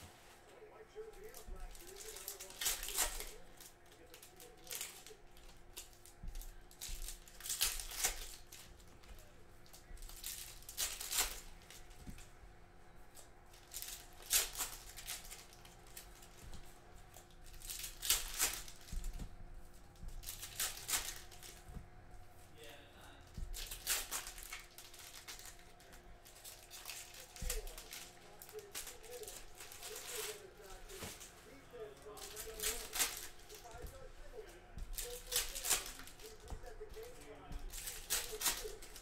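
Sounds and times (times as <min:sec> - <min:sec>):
cards being handled: 0:00.0 - 0:22.6, 0:23.3 - 0:39.0
faint steady hum: 0:00.0 - 0:39.0
foil wrappers crinkling and tearing: 0:00.5 - 0:12.3, 0:13.1 - 0:21.8, 0:23.3 - 0:39.0.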